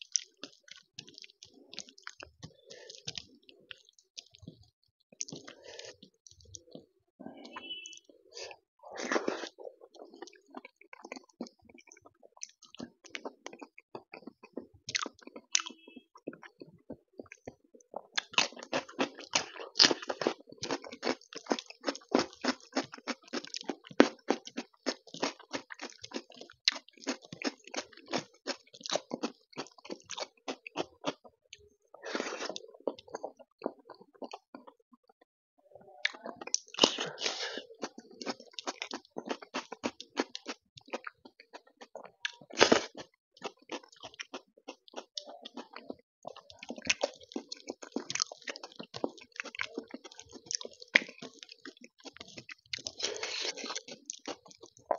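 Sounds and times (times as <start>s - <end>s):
wet chewing and lip smacks: 0.0s - 35.2s, 36.0s - 54.9s.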